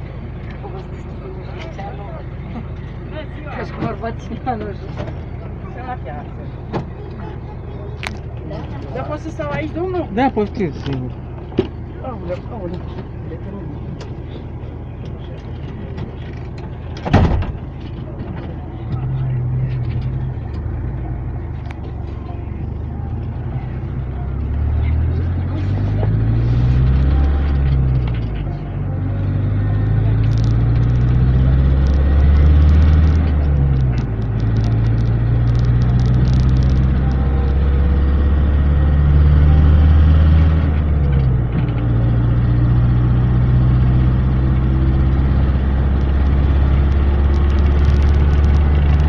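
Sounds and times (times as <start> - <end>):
minibus engine running: 0.0 - 49.0
road noise: 0.0 - 49.0.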